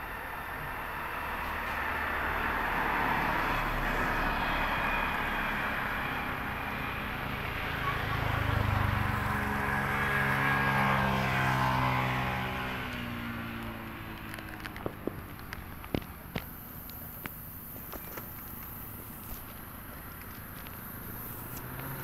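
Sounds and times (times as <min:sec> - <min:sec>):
vehicle passing by: 0:00.0 - 0:16.4, 0:20.2 - 0:22.0.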